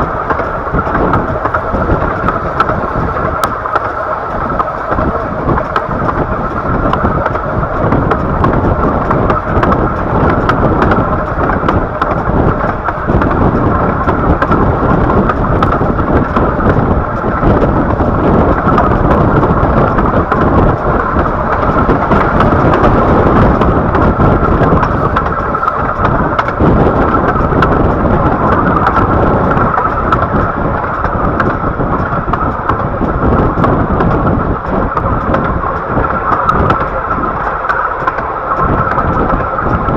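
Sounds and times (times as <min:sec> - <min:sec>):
train carriage rumbling on track: 0:00.0 - 0:39.9
wind buffeting microphone: 0:00.0 - 0:39.9.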